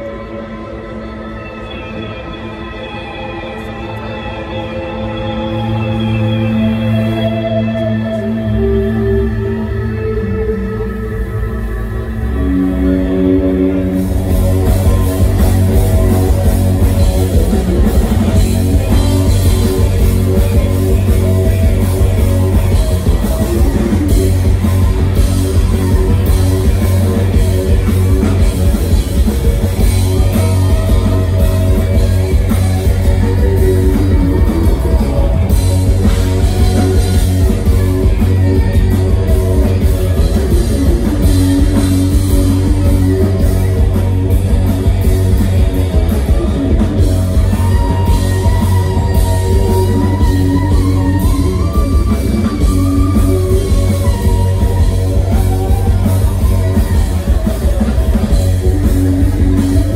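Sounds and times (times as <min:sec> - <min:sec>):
rock band playing loudly: 0:00.0 - 0:59.9.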